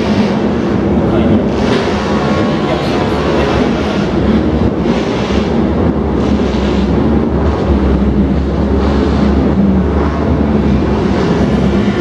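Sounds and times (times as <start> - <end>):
cars and motorcycles driving past: 0.0 - 12.0.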